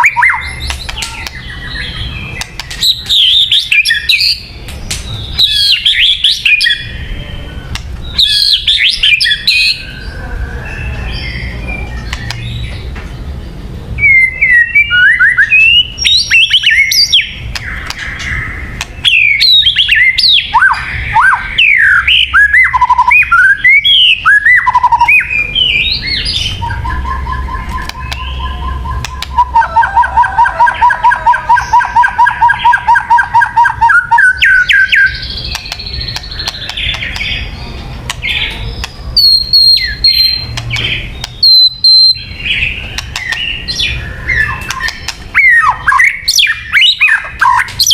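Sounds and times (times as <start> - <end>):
bird singing: 0.0 - 47.9.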